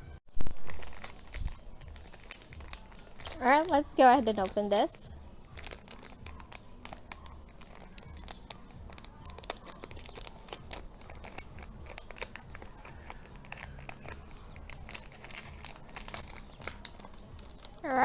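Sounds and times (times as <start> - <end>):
plastic wrapper crinkling: 0.3 - 18.0.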